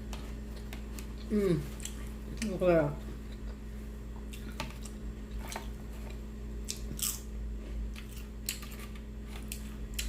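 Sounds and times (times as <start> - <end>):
person chewing food: 0.0 - 2.4, 3.0 - 10.0.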